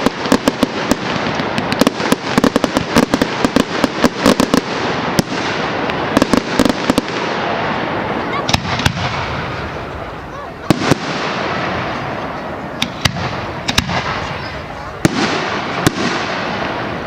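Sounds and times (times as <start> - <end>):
firework bangs and crackles: 0.0 - 17.0.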